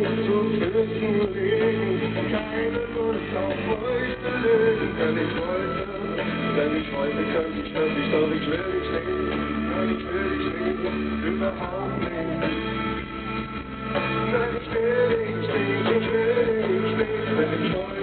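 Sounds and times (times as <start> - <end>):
man singing: 0.0 - 13.0, 14.0 - 18.0
live rock band playing: 0.0 - 18.0.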